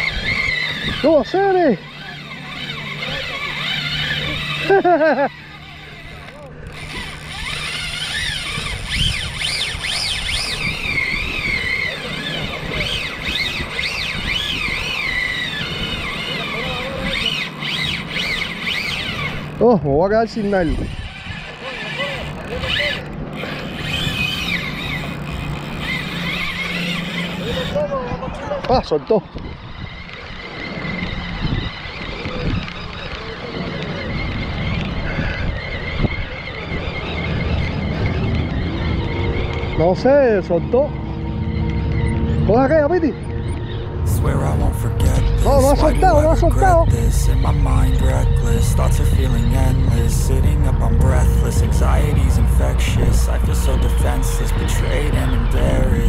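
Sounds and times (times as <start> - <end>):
wind rumble on microphone: 0.0 - 4.6, 5.7 - 56.0
fishing reel drag whining: 0.0 - 56.0.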